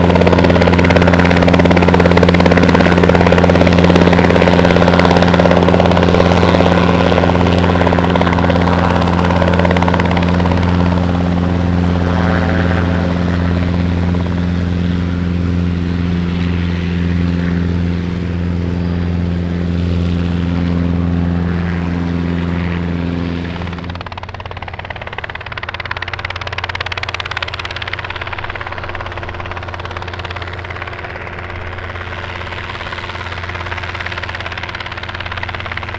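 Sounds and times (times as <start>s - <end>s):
helicopter hum in flight: 0.0s - 35.9s.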